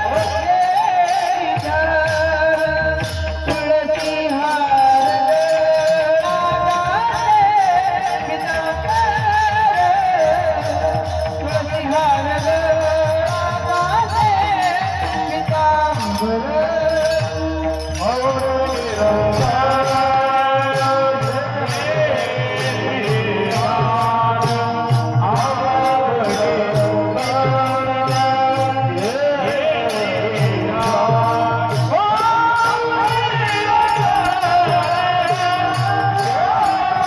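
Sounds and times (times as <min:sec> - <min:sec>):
drum: 0:00.0 - 0:37.0
hand cymbals: 0:00.0 - 0:37.0.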